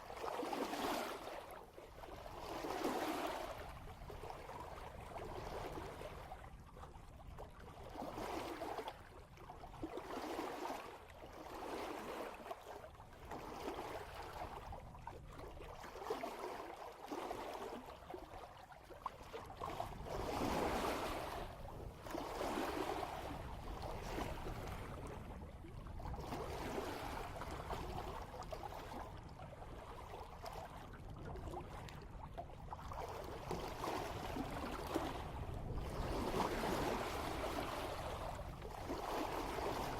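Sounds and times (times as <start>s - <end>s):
water splashing past boat bow: 0.0s - 6.5s, 9.8s - 39.9s
low rumble of wind: 0.0s - 39.9s.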